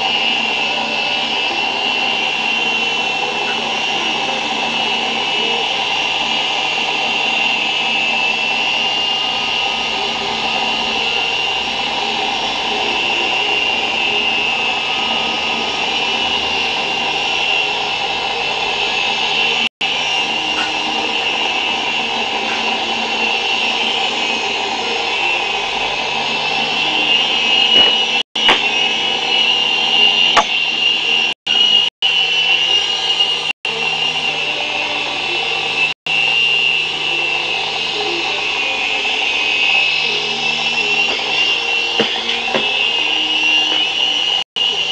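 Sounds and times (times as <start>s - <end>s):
model helicopter motor whine: 0.0s - 44.9s.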